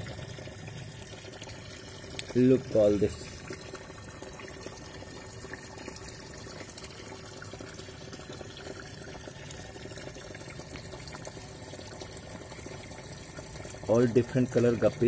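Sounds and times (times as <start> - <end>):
water dripping: 0.0 - 15.0
water pouring into pond: 0.0 - 15.0.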